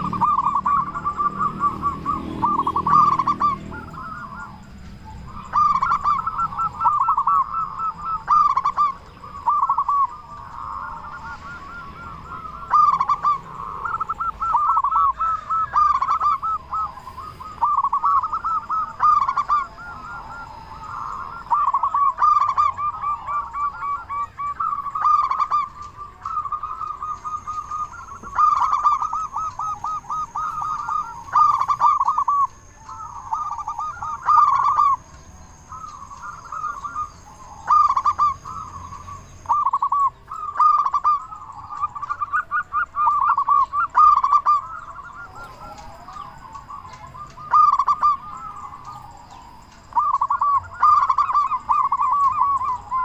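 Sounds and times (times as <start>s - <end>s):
dove cooing: 0.0s - 53.0s.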